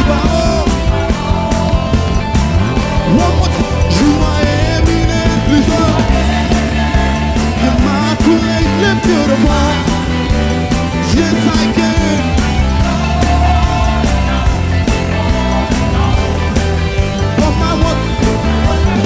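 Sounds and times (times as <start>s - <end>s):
bass and drums: 0.0s - 19.0s
person singing: 0.0s - 19.0s
praise band playing: 0.0s - 19.0s.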